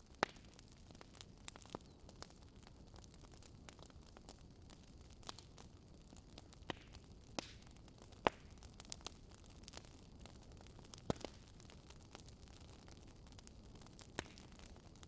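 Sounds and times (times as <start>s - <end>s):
faint low fire hiss: 0.0s - 15.0s
wood fire crackling and popping: 0.0s - 15.0s.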